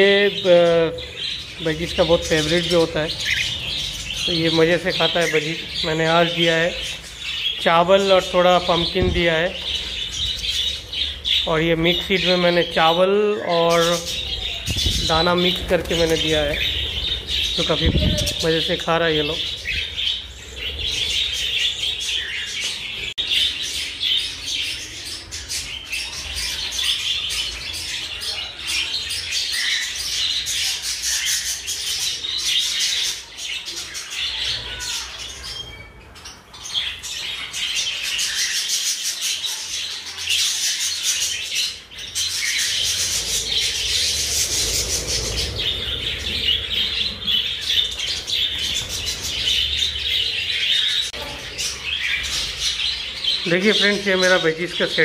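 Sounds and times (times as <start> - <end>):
budgerigars chattering and chirping: 0.0 - 55.0.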